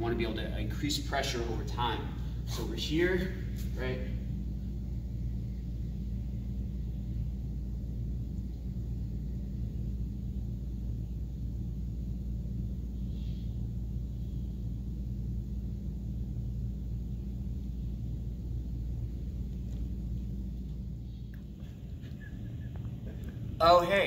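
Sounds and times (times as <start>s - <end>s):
low rumble: 0.0s - 24.0s
steady low hum: 0.0s - 24.0s.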